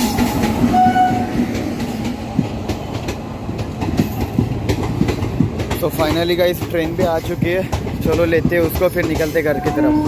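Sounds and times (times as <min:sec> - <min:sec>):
train rumbling past: 0:00.0 - 0:10.0
wheels clacking over rail joints: 0:00.0 - 0:10.0.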